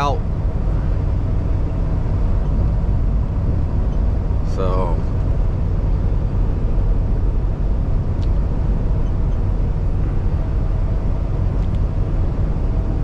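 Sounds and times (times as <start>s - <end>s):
road noise: 0.0s - 13.0s
truck diesel engine rumble: 0.0s - 13.0s.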